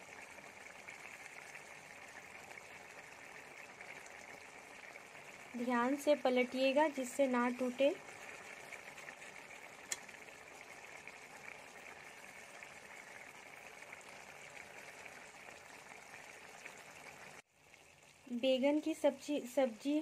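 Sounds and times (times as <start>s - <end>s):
gravy simmering bubbling: 0.0s - 20.0s.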